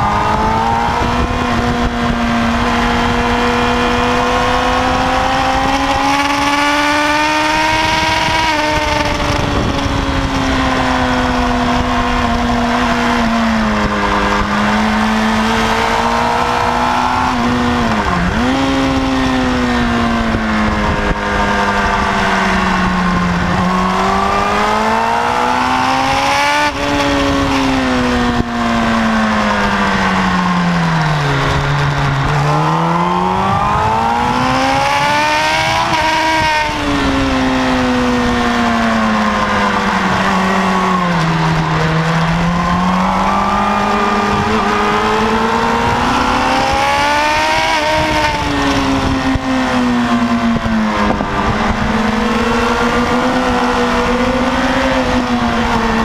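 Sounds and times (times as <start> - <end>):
motorcycle engine revving: 0.0 - 56.0
wind rushing: 0.0 - 56.0.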